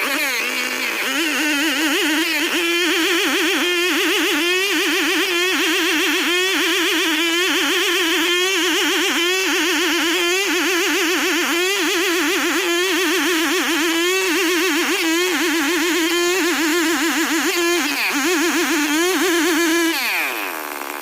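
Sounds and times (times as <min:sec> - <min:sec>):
high fast-wavering melody: 0:00.0 - 0:20.5.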